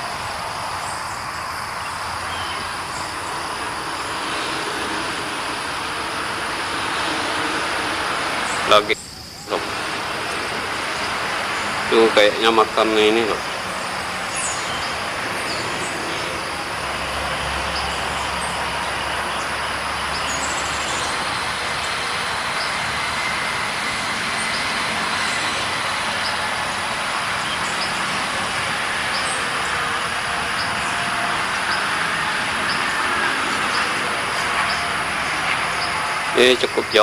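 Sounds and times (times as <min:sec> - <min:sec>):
low engine hum: 0:00.0 - 0:37.0
passing motor traffic: 0:00.0 - 0:37.0.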